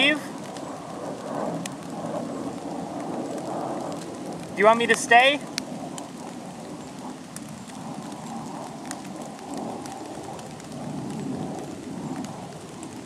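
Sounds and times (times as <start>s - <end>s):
light rain hiss: 0.0s - 13.0s
raindrop clicks: 0.0s - 13.0s.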